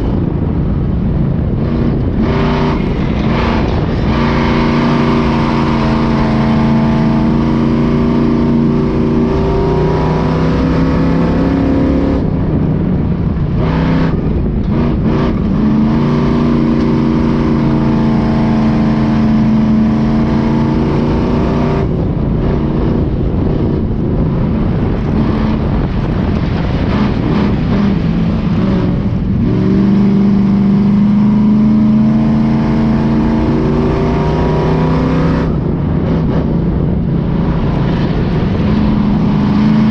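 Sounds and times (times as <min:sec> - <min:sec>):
race truck engine revving hard: 0:01.4 - 0:12.4, 0:13.5 - 0:39.9.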